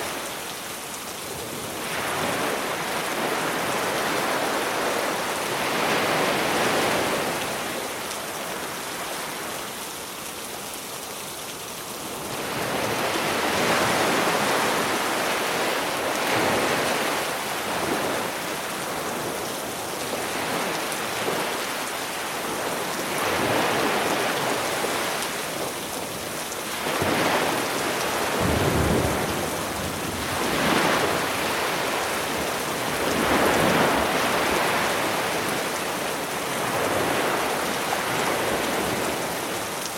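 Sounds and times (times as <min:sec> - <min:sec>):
sea waves breaking on beach: 0:00.0 - 0:10.0, 0:12.0 - 0:39.9.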